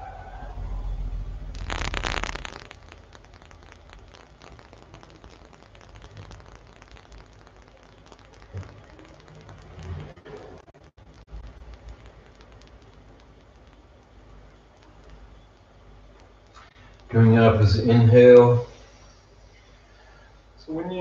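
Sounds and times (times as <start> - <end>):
faint crackle of small clicks: 1.5 - 21.0.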